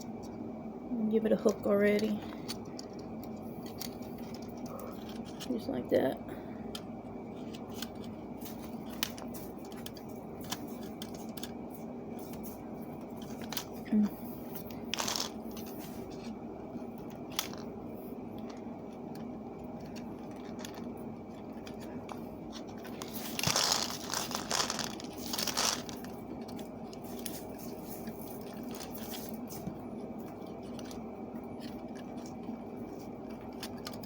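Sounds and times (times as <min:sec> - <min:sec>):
steady low hum: 0:00.0 - 0:34.0
wire scraping and crinkling: 0:01.8 - 0:05.7, 0:07.3 - 0:34.0.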